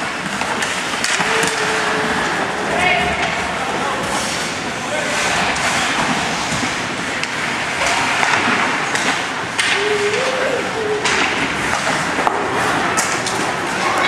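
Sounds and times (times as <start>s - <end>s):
ice rink crowd noise: 0.0s - 14.0s
sticks and puck clacking on boards: 0.0s - 14.0s.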